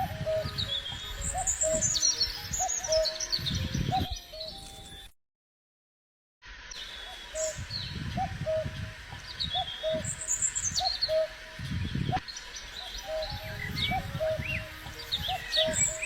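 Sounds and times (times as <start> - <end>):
bird calling low note: 0.0 - 5.1, 6.7 - 16.0
bird chirps and trills: 0.0 - 5.1, 6.6 - 16.0.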